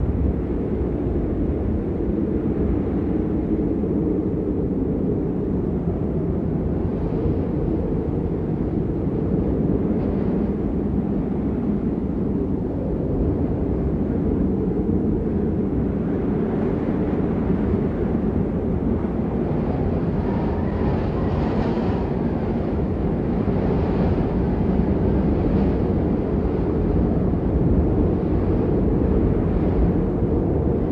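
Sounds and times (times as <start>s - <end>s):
storm wind buffeting microphone: 0.0s - 30.9s.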